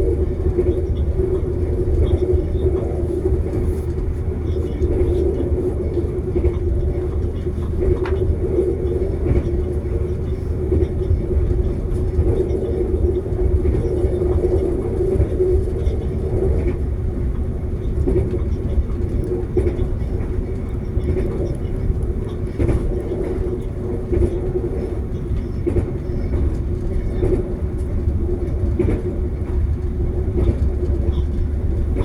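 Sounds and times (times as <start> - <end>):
constant hum: 0.0 - 32.0
train rumbling: 0.0 - 32.0.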